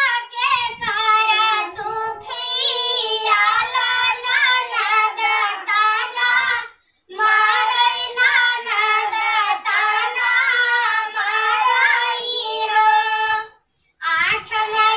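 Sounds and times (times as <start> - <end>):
high voice singing folk song: 0.0 - 14.9.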